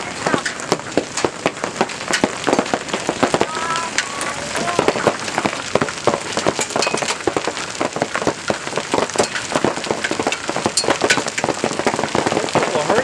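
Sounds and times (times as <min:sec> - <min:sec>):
hailstones clattering: 0:00.0 - 0:13.0.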